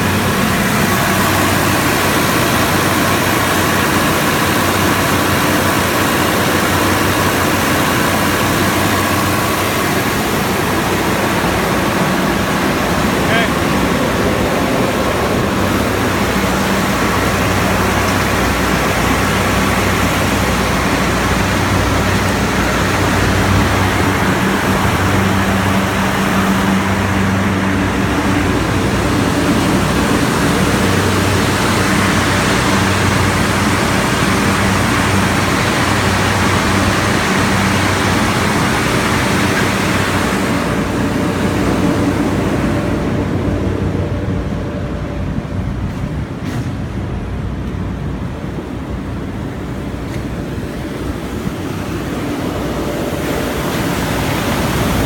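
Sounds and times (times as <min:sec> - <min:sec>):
air-conditioning unit blowing air: 0:00.0 - 0:55.0.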